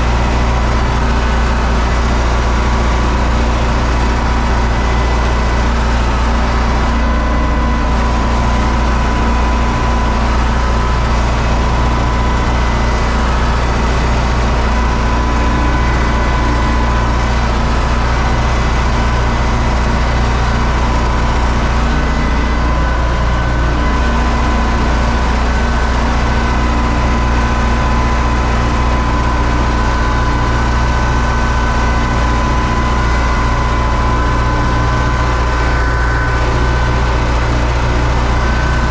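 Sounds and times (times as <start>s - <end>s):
high whine: 0.0s - 38.9s
tractor diesel engine running: 0.0s - 38.9s.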